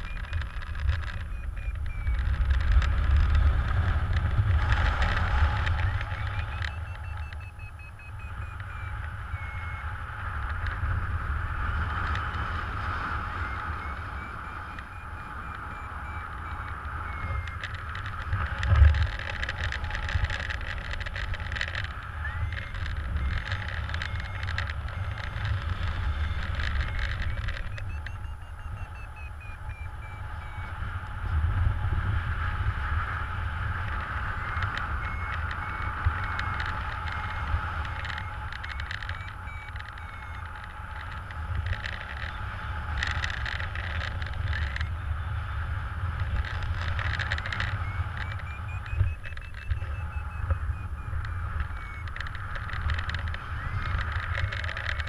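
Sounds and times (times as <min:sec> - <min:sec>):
electronic beeping gliding in pitch: 0:00.0 - 0:55.0
wind rushing over microphone: 0:00.0 - 0:55.0.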